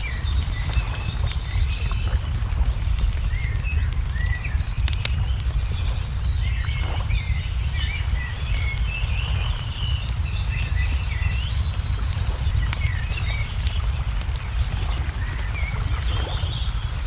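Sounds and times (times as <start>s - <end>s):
crackling wood fire: 0.0s - 17.0s
small birds chirping: 0.0s - 17.0s.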